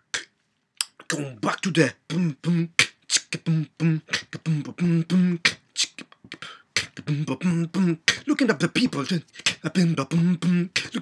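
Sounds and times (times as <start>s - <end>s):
man beatboxing: 0.0s - 11.0s.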